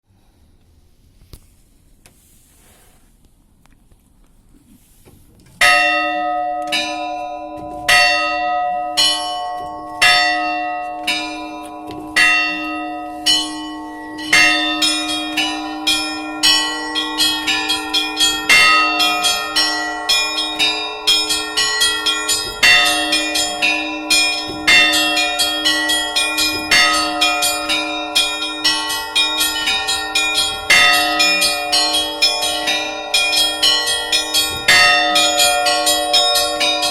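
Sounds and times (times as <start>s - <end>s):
large church bell tolling: 5.6s - 36.9s
smaller bells chiming fast: 5.6s - 36.9s.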